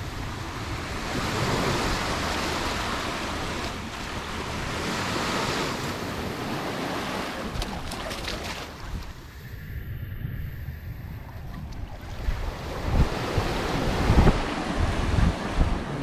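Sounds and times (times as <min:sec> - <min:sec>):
sea waves breaking on shore: 0:00.0 - 0:16.0
wind buffeting microphone: 0:00.0 - 0:16.0.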